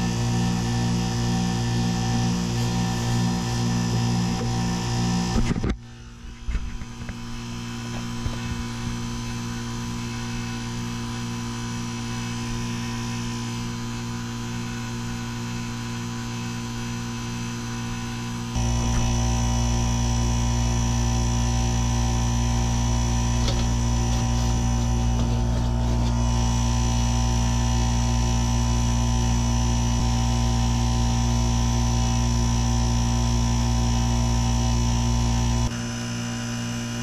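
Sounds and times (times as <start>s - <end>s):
heat pump humming: 0.0s - 37.0s.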